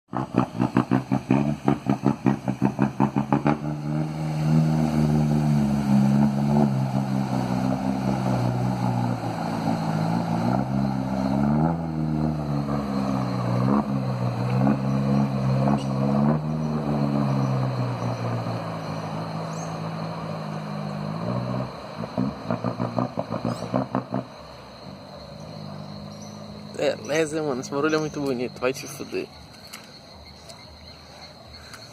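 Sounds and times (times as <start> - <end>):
pickup engine revving: 0.1 - 29.1.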